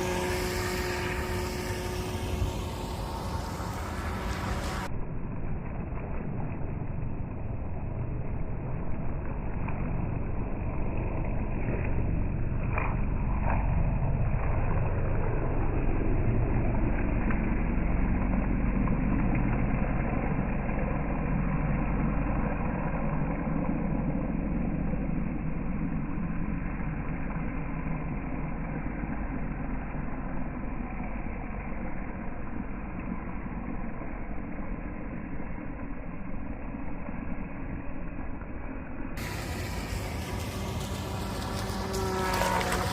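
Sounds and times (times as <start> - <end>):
model speedboat motor and rushing water: 0.0 - 42.9.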